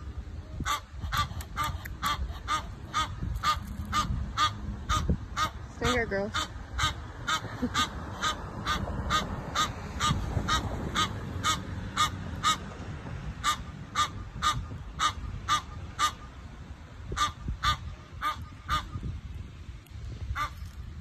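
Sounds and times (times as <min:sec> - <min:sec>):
geese honking: 0:00.6 - 0:12.6, 0:13.4 - 0:16.3, 0:17.1 - 0:19.0.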